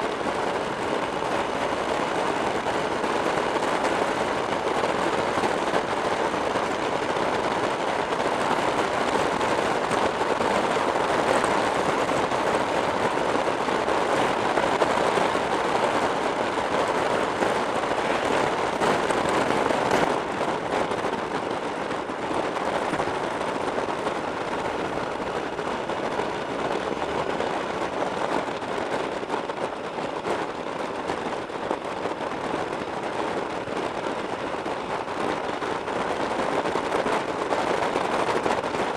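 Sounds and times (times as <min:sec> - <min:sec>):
motorcycle wind and road noise: 0:00.0 - 0:38.9
wind buffeting crackle: 0:00.0 - 0:38.9.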